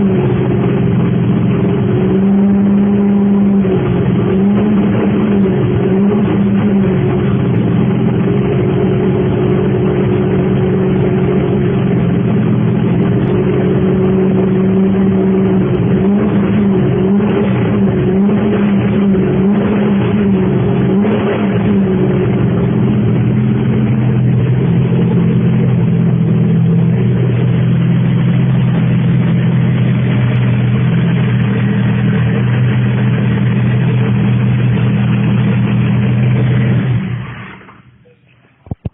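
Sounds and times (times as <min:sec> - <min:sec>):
race car engine idling: 0:00.0 - 0:38.6
engine throttle blips: 0:00.0 - 0:38.9.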